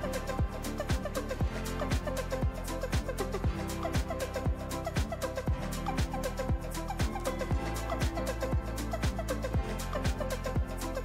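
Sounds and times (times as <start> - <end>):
kick drum beat: 0.0 - 10.8
sustained bass notes: 0.0 - 11.0.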